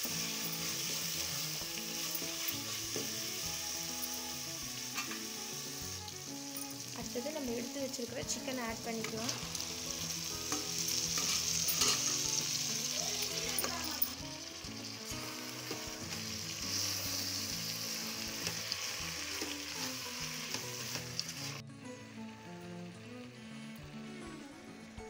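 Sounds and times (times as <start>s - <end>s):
chicken sizzling in hot oil: 0.0s - 21.6s.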